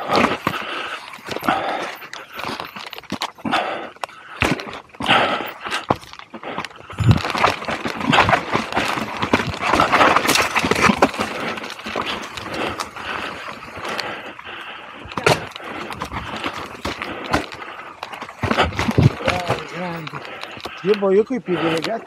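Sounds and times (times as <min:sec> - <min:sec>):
bike knocking and rattling: 0:00.0 - 0:22.0
bike tyres crunching over dirt: 0:00.0 - 0:22.0.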